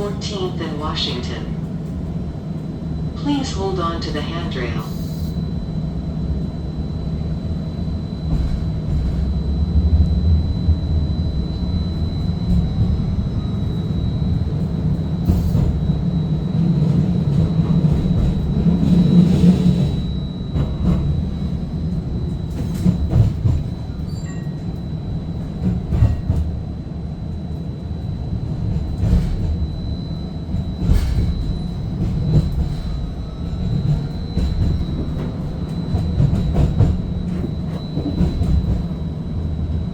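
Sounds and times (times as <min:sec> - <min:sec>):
streetcar rumbling on rails: 0:00.0 - 0:39.9.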